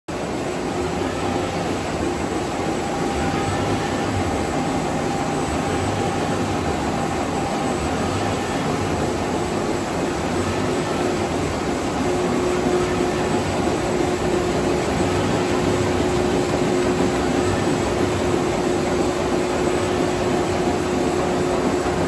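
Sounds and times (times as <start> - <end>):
faint steady hums: 0.1 - 22.0
printing press running: 0.1 - 22.0.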